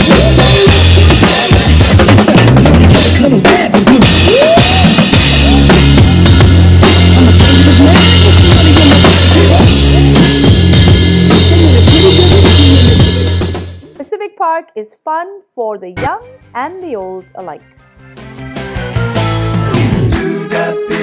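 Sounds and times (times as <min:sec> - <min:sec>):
band music with drum beat: 0:00.0 - 0:14.0, 0:16.0 - 0:17.1, 0:17.9 - 0:21.0.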